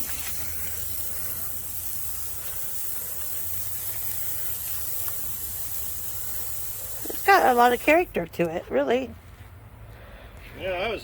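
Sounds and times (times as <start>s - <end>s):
water spraying from a hose: 0.0s - 9.1s
steady low hum: 0.0s - 10.5s.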